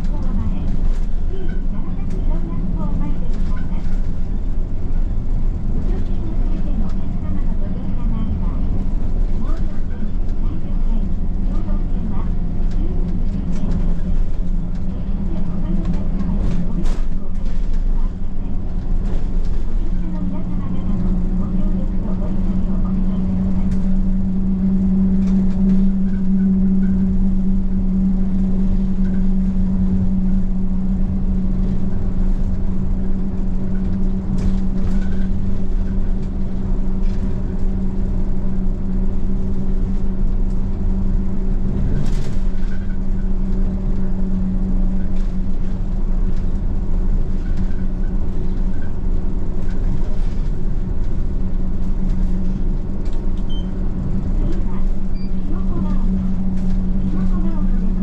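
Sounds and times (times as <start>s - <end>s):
bus engine and tyres rumbling: 0.0s - 58.0s.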